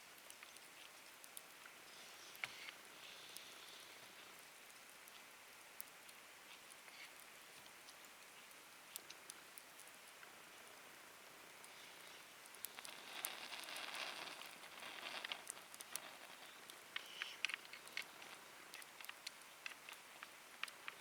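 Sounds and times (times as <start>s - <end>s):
soft hiss of fire: 0.0s - 21.0s
wood fire crackling and popping: 0.1s - 21.0s.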